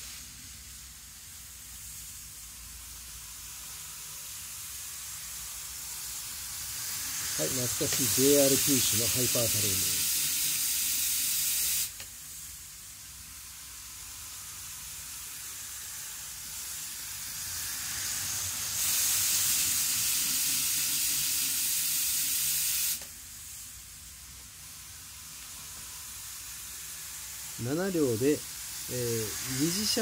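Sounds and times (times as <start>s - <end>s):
model train whirring on track: 3.0s - 11.6s, 13.1s - 23.1s, 24.5s - 30.0s.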